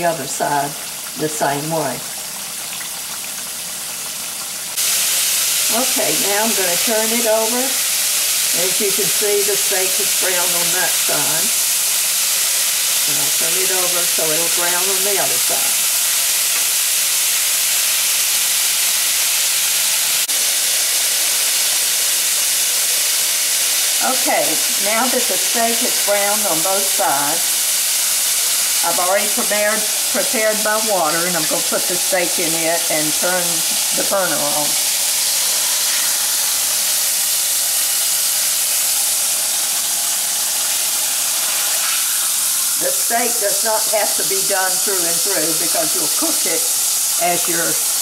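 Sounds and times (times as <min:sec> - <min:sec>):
steaks sizzling in hot oil: 0:00.0 - 0:48.0.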